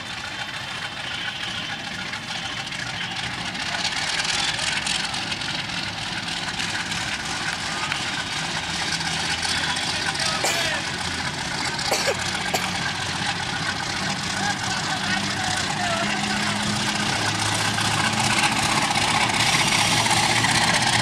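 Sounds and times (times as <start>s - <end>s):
diesel locomotive engine drone: 0.0s - 21.0s.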